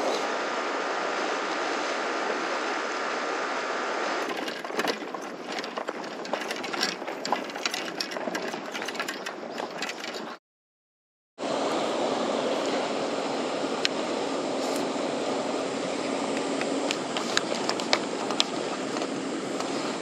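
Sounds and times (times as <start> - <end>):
sea waves: 0.0 - 10.4, 11.4 - 20.0
wind: 0.0 - 10.4, 11.4 - 20.0.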